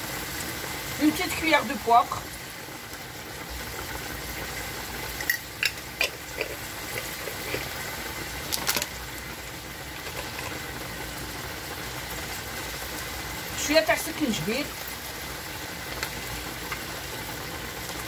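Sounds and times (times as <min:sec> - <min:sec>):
food sizzling in a pot: 0:00.0 - 0:18.0.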